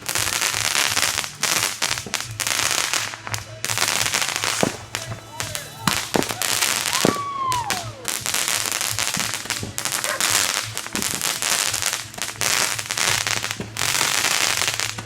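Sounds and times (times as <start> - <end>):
descending firework whistle: 0.0 - 15.0
fireworks crackling: 0.0 - 15.0.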